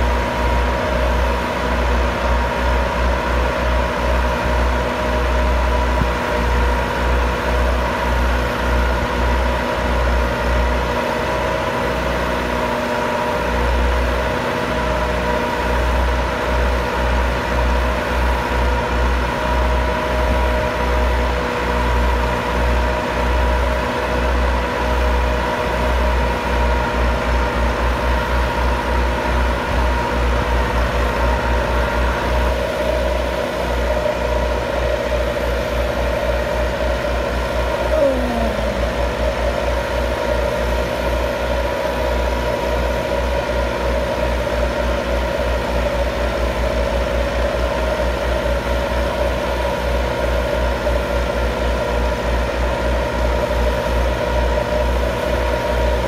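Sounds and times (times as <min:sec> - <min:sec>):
tractor engines rumbling under load: 0:00.0 - 0:56.0.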